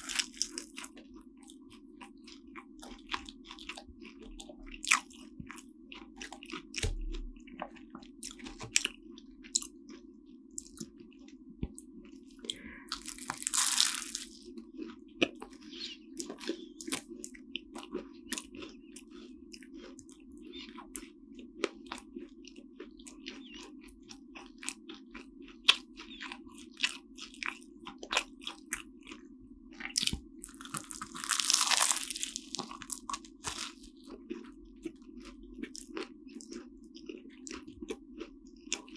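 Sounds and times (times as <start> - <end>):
chewing and crunching pastry: 0.0 - 38.9.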